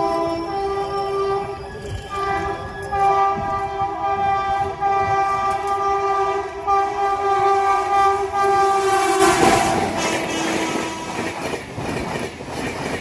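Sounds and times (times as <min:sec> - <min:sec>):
locomotive horn blast: 0:00.0 - 0:11.5
train rumble: 0:00.0 - 0:13.0.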